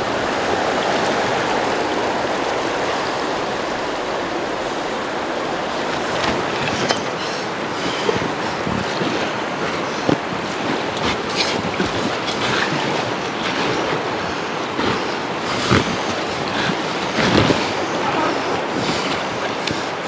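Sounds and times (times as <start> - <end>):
paddle splashes: 0.0 - 20.0
river rapids rushing: 0.0 - 20.0.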